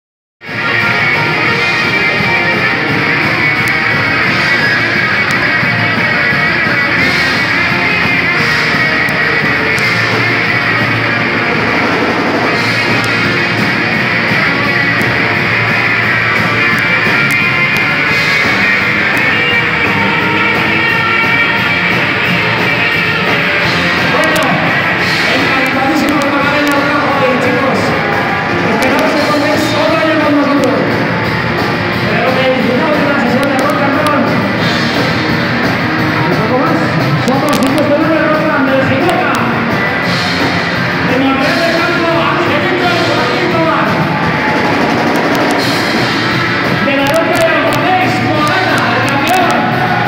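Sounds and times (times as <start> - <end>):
drum kit: 0.4 - 50.0
electric guitars: 0.4 - 50.0.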